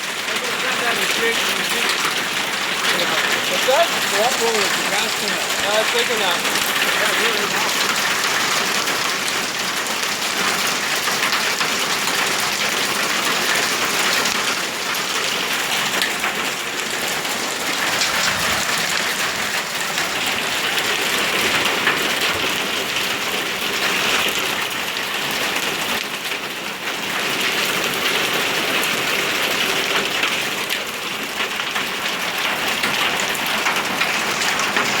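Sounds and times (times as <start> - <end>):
heavy hail clattering: 0.0 - 35.0.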